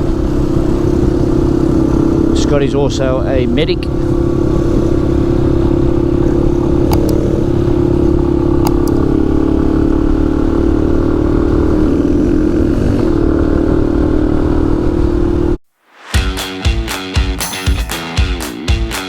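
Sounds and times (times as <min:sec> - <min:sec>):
motorbike engine cruising: 0:00.0 - 0:15.6, 0:18.0 - 0:19.0
wind noise: 0:00.0 - 0:15.6.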